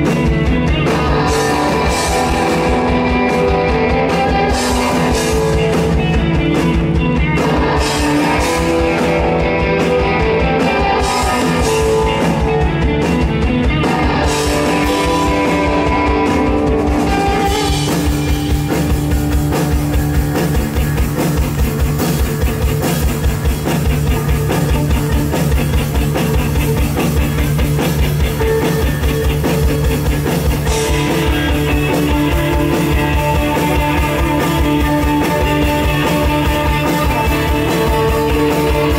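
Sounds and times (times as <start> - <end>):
distorted electric guitars: 0.0 - 38.9
drum kit: 0.0 - 38.9.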